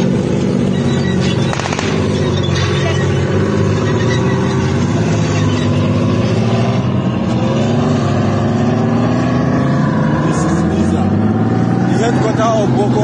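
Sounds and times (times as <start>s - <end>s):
tank engine running: 0.0s - 13.0s.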